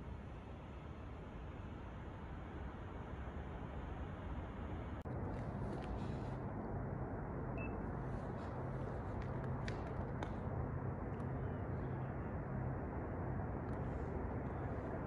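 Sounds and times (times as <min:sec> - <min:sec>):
faint background rumble: 0:00.0 - 0:15.0.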